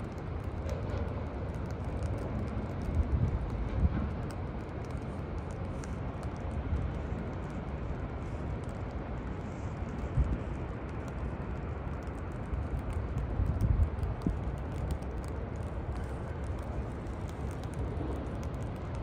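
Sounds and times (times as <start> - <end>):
city and construction rumble: 0.0 - 19.0
light ticks: 0.0 - 19.0.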